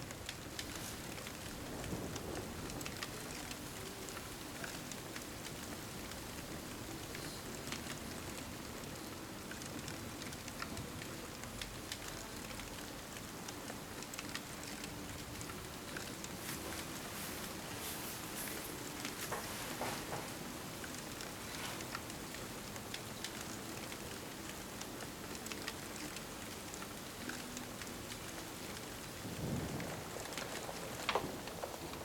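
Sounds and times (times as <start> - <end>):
steady rain: 0.0 - 32.0
wood fire crackling: 0.0 - 32.0.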